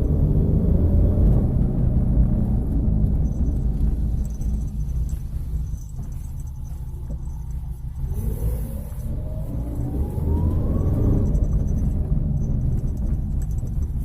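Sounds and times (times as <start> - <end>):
car cabin droning hum: 0.0 - 14.0
car engine accelerating: 0.0 - 14.0
road rumble: 0.0 - 14.0.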